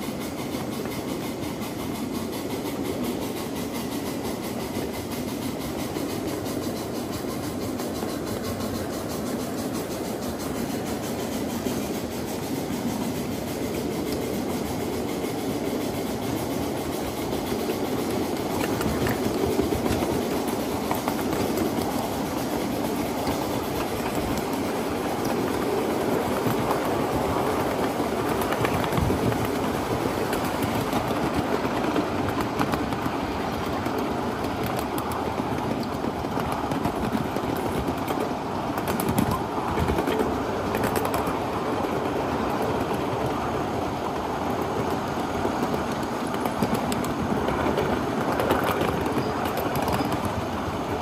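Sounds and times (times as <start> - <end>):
model train wheels rumbling on rails: 0.0 - 51.0.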